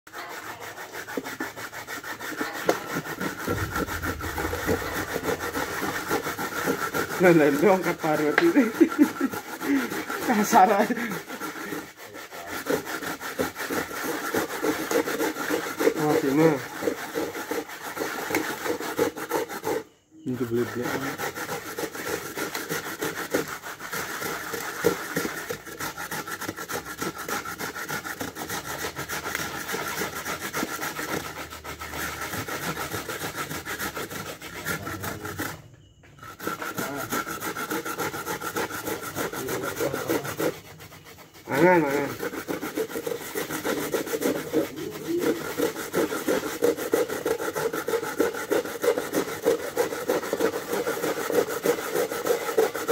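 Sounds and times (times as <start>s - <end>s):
coconut grating rasping strokes: 0.1s - 52.9s.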